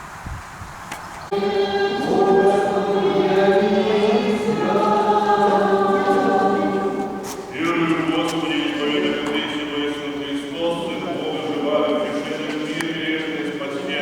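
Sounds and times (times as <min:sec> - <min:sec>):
choir singing a slow chant: 0:01.3 - 0:14.0.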